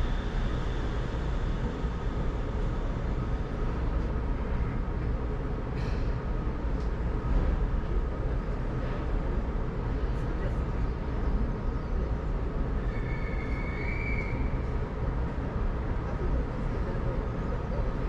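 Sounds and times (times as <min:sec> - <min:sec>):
monorail car rumble: 0:00.0 - 0:18.0.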